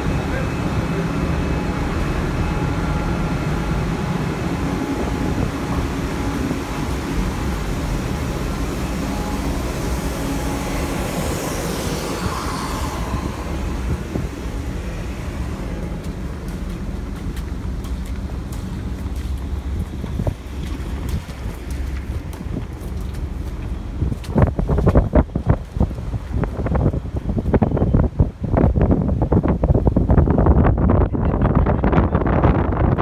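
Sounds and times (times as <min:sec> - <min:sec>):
ship machinery drone: 0:00.0 - 0:33.0
wind on microphone: 0:00.0 - 0:33.0.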